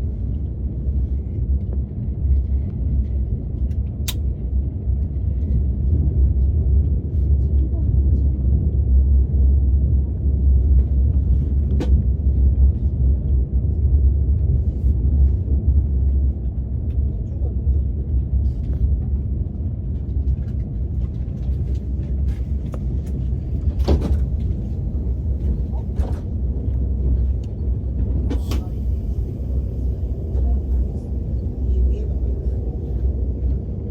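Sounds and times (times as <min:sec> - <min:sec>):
train cabin rumble: 0:00.0 - 0:33.9.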